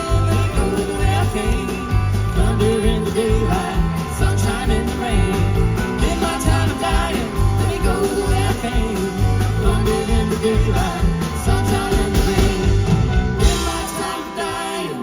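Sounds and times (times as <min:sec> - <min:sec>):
live country-rock band playing: 0:00.0 - 0:15.0.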